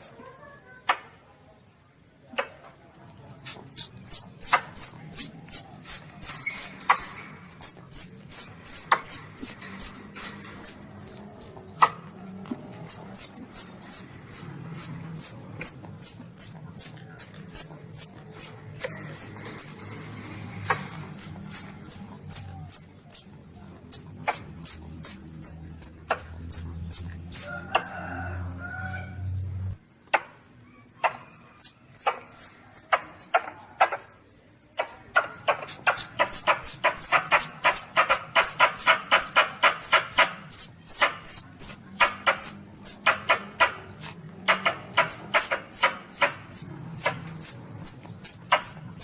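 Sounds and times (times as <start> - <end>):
civet high thin squeaks: 3.4 - 27.5, 31.1 - 34.5, 35.2 - 49.0.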